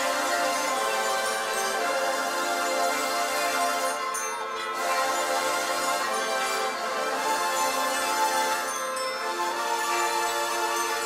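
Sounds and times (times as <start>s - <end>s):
bugles playing held chords: 0.0s - 11.0s.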